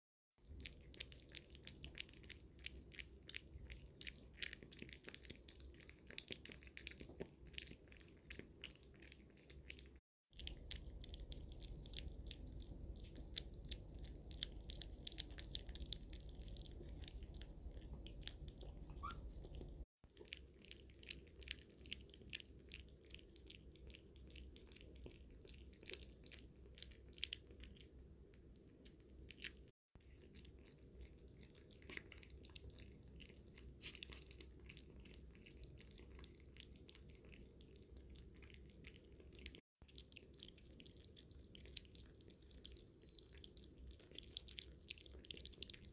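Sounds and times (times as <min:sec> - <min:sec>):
puppies chewing and smacking: 0:00.4 - 0:45.9.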